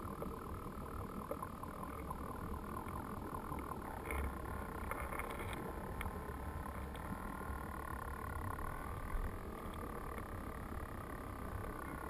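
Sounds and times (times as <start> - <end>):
creek water underwater rumble: 0.0 - 12.0
faint ticks: 0.0 - 12.0.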